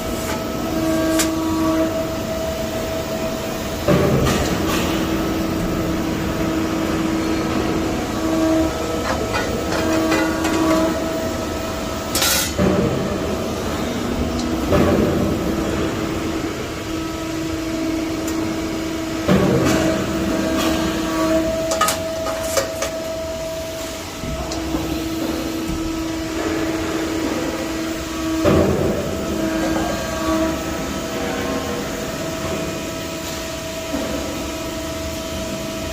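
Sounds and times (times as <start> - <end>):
press brake machine hum: 0.0 - 35.9.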